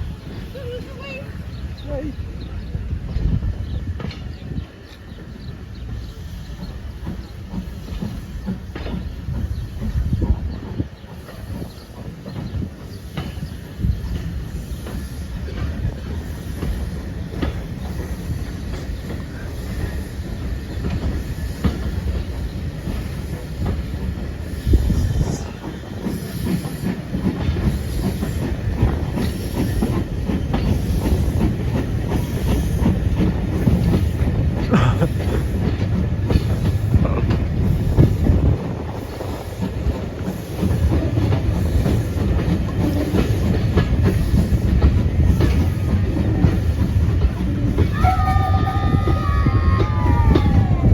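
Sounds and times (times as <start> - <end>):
train low rumble: 0.0 - 50.9
wheels clacking over rail joints: 2.3 - 24.5, 25.5 - 50.9.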